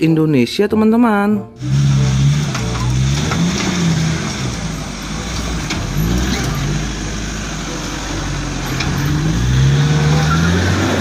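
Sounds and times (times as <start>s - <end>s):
pickup engine revving under load: 1.6s - 11.0s.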